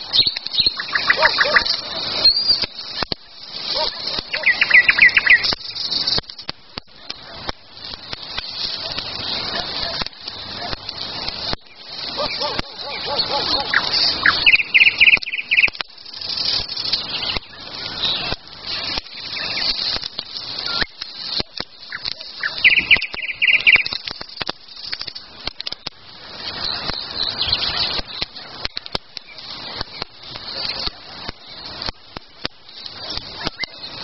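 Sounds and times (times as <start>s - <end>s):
songbirds singing: 0.0s - 6.2s, 6.9s - 34.0s
campfire crackling and popping: 0.0s - 34.0s.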